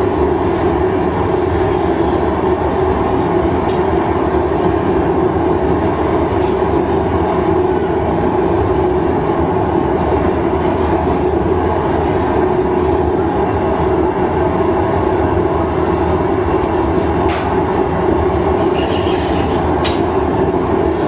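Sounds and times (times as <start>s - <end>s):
gas furnace roaring: 0.0s - 21.0s.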